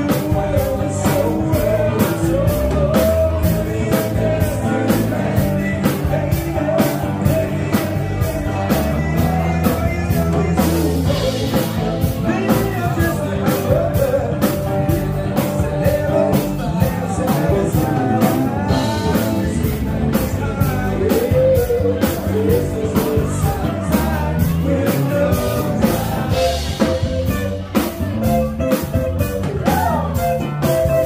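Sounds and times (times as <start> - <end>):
bass guitar: 0.0 - 31.0
electric guitar: 0.0 - 31.0
person singing: 0.0 - 31.0
steady drumbeat: 0.0 - 31.0.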